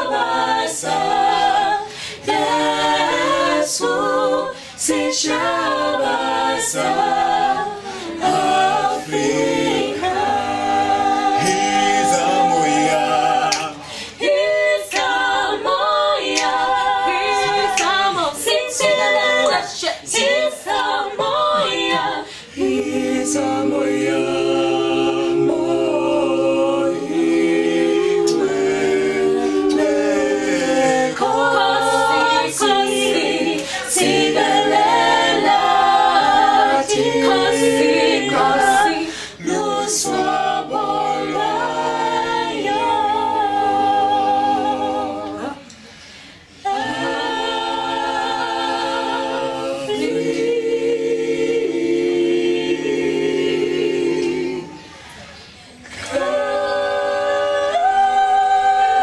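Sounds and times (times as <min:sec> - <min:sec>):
mixed choir singing a cappella: 0:00.0 - 0:59.0.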